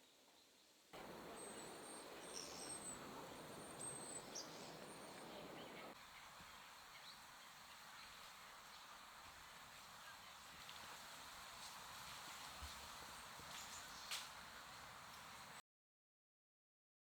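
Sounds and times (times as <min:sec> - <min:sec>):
faint steady hiss: 0:00.0 - 0:15.6.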